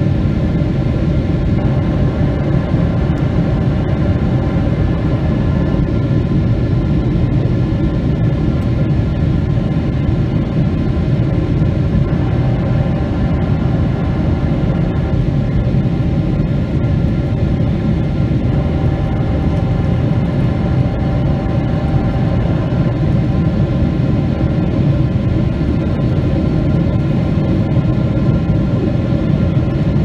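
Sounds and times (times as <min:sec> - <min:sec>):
airplane cabin drone: 0:00.0 - 0:30.0
faint engine whine: 0:00.0 - 0:30.0.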